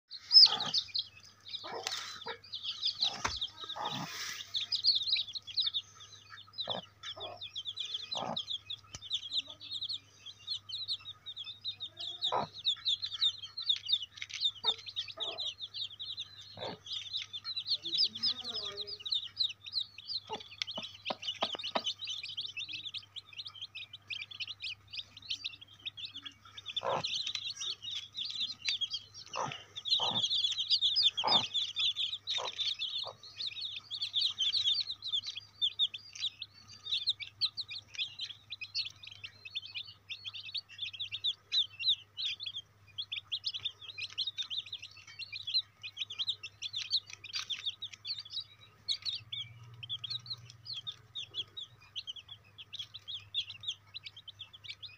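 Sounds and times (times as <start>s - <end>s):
chicks peeping: 0.1s - 54.9s.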